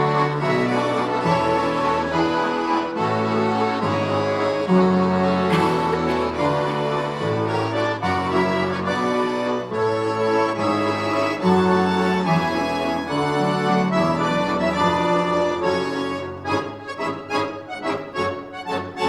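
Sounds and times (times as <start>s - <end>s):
accordion orchestra playing chords: 0.0s - 19.0s.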